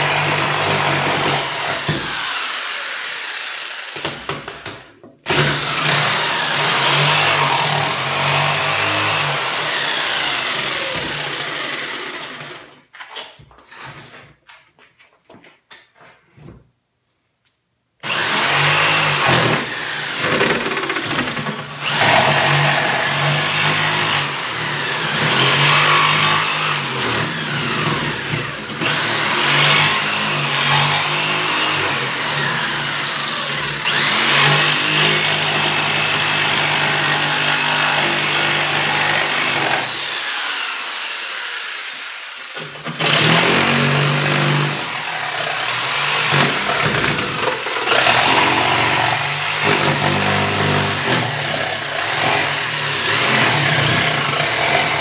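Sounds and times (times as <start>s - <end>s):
jigsaw cutting wood: 0.0s - 14.2s, 18.0s - 55.0s.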